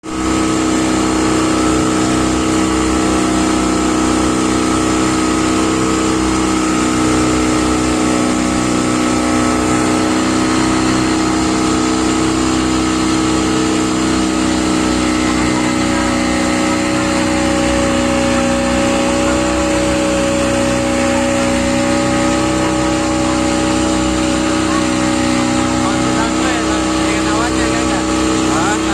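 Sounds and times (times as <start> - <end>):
outboard engine running: 0.0 - 28.9.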